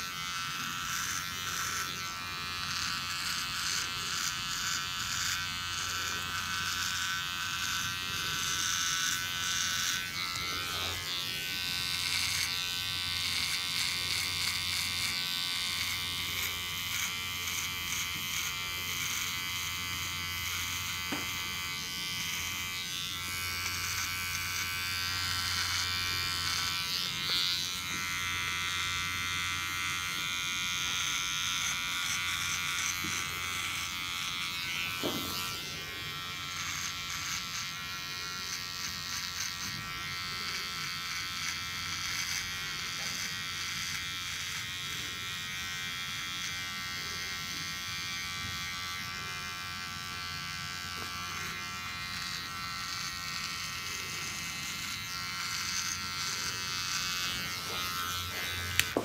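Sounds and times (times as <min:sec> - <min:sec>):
electric clippers buzzing: 0:00.0 - 0:59.0.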